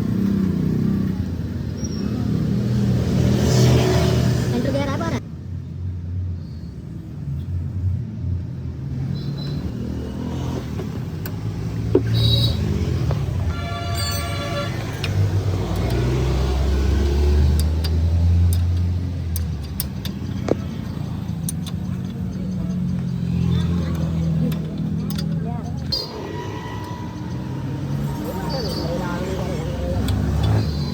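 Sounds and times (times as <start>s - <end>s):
vehicle engine rumble: 4.3s - 30.9s.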